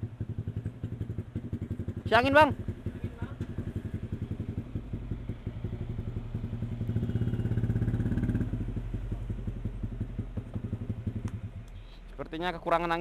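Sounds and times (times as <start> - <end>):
motorcycle engine idling: 0.0 - 12.2.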